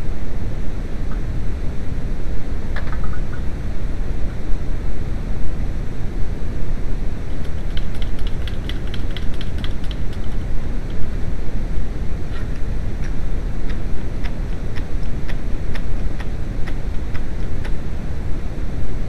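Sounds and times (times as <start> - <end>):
steady low rumbling: 0.0 - 19.0.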